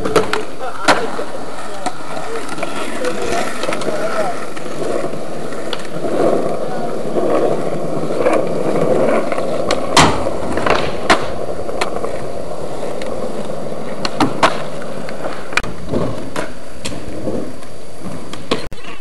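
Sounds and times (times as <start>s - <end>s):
skateboard clacking on ground: 0.0s - 19.0s
skateboard wheels rolling on concrete: 0.0s - 19.0s.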